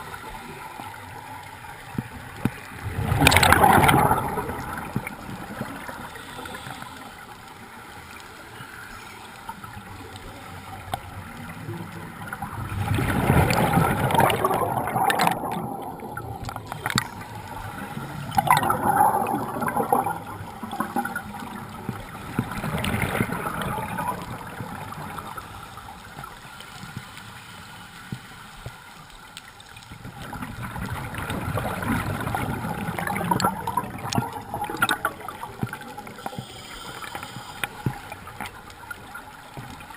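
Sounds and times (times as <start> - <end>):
low water wash: 0.0 - 39.9
water gurgling in surges: 0.0 - 39.9.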